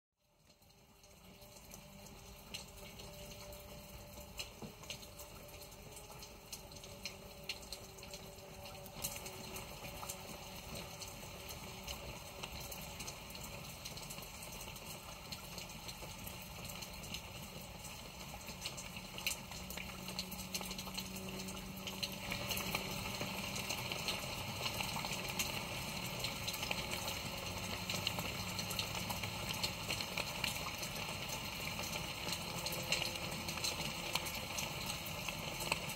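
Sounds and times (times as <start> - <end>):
bubbling running water: 0.6 - 35.9.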